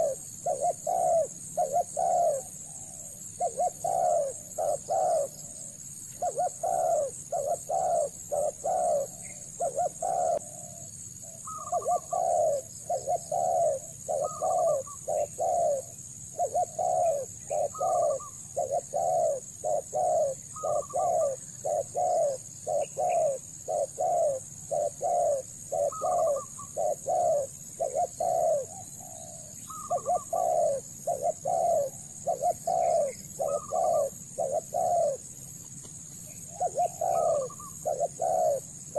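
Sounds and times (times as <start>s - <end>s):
dove cooing: 0.0s - 38.9s
steady high-pitched hiss: 0.0s - 38.9s.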